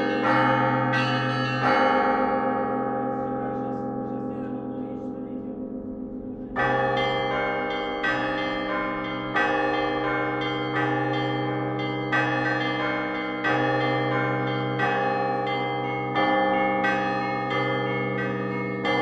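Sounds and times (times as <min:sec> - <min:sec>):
church bells ringing: 0:00.0 - 0:19.0.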